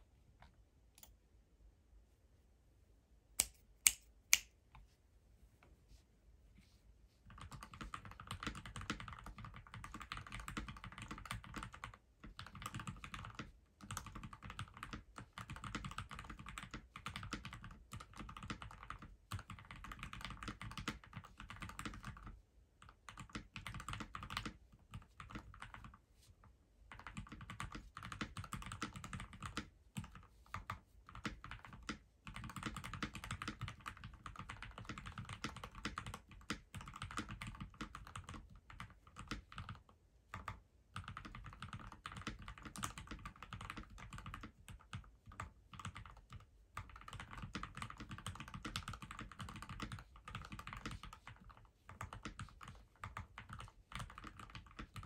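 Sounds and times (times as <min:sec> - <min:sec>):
mechanical keyboard typing clicks: 0:07.4 - 0:22.3, 0:23.1 - 0:26.0, 0:26.9 - 0:55.0.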